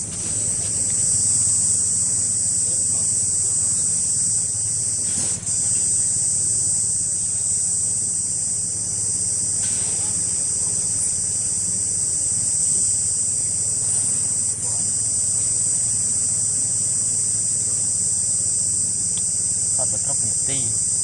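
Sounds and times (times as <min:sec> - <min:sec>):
insects droning in trees: 0:00.0 - 0:21.0.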